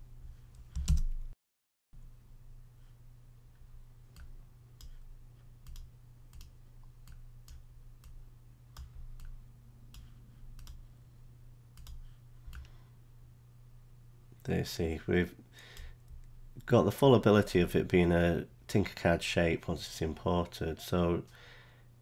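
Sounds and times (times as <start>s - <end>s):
steady low hum: 2.0s - 22.0s.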